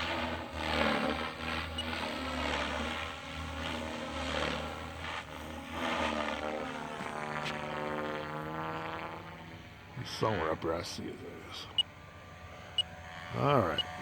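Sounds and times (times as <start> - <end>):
helicopter rotor hum: 0.0 - 14.0.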